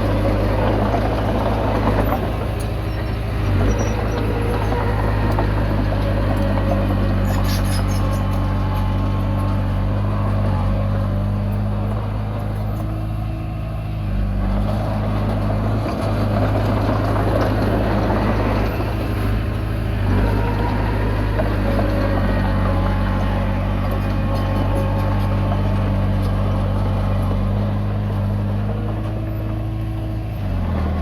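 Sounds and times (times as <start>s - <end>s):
bulldozer diesel engine under load: 0.0s - 31.0s.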